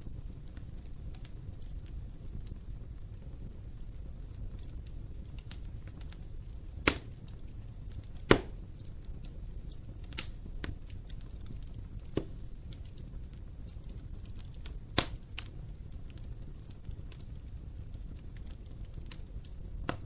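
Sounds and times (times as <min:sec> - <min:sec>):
sharp pops of fire: 0:00.0 - 0:20.0
wood fire crackling: 0:00.0 - 0:20.0.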